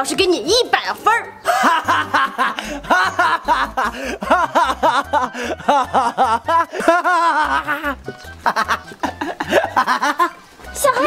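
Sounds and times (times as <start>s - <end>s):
man laughing loudly: 1.4s - 10.4s
background music with bass beat: 1.7s - 11.0s.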